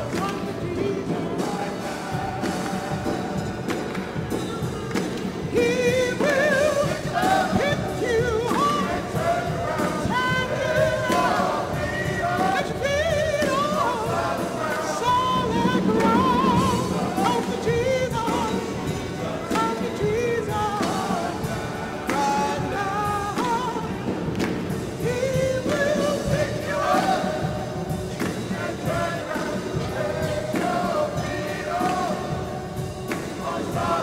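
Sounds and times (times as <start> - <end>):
choir singing a hymn: 0.0 - 34.0
piano accompaniment: 0.0 - 34.0
steady beat: 0.0 - 34.0.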